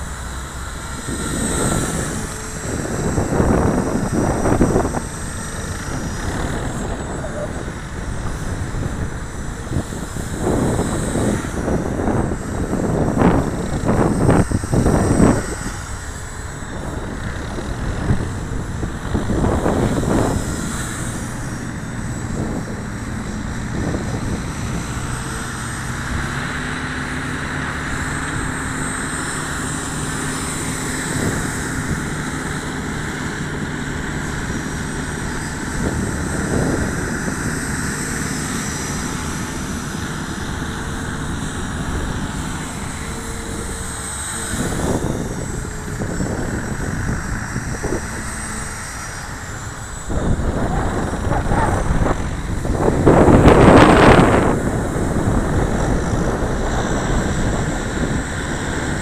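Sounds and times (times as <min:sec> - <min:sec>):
rc helicopter rotors whirring: 0:00.0 - 0:59.0
wind gusting on microphone: 0:00.0 - 0:59.0.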